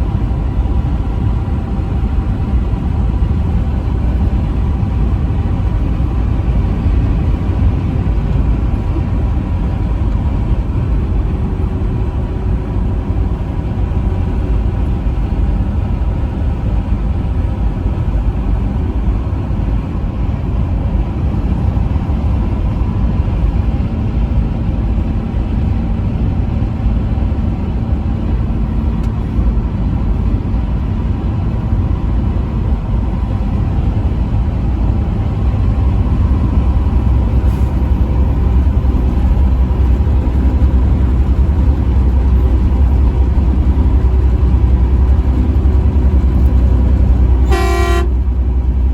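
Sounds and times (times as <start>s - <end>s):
truck engine and road rumble: 0.0s - 48.9s.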